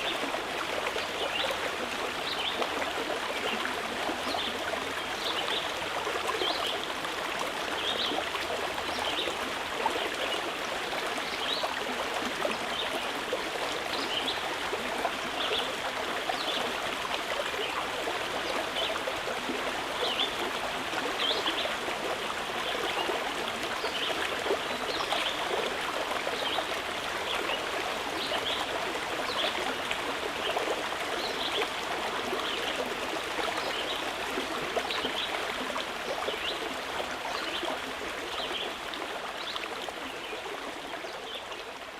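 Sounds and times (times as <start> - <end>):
stream flowing over stones: 0.0 - 41.9.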